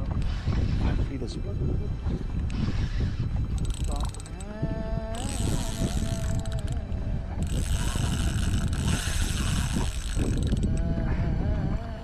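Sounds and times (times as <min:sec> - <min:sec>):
fishing reel whirring: 0:00.0 - 0:01.1, 0:02.4 - 0:11.9
reel drag buzzing: 0:00.0 - 0:01.2, 0:02.1 - 0:12.0.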